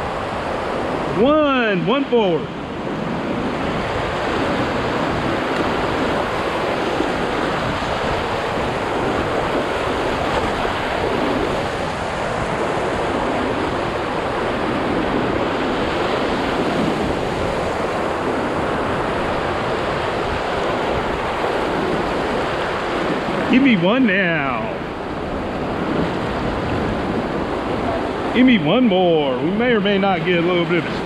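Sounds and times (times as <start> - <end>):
river whitewater rushing: 0.0 - 31.0.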